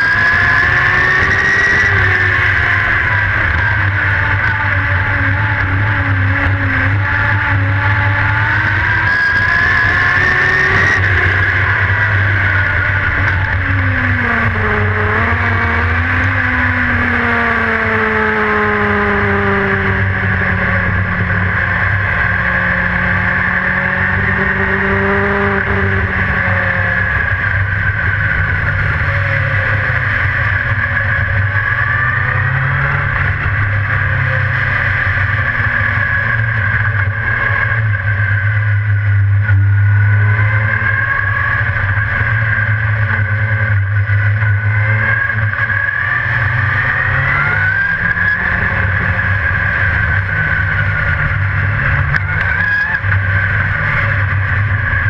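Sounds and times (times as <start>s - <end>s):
race car engine droning: 0.0s - 55.0s.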